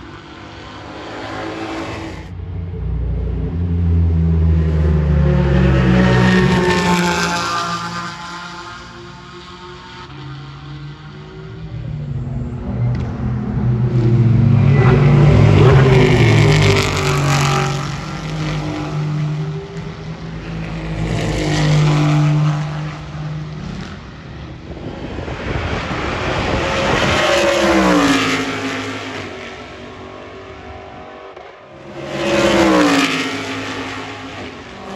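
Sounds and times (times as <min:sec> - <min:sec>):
race cars passing at speed: 0:00.0 - 0:34.9.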